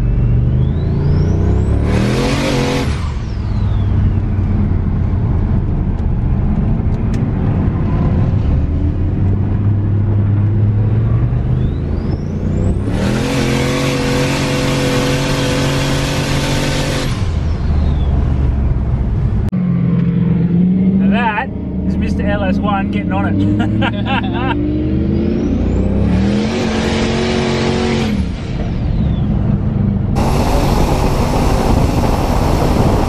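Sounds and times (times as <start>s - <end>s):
car engine: 0.0s - 33.0s.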